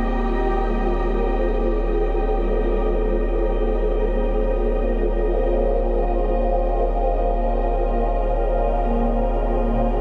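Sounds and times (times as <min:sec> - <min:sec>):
ambient electronic music: 0:00.0 - 0:10.0.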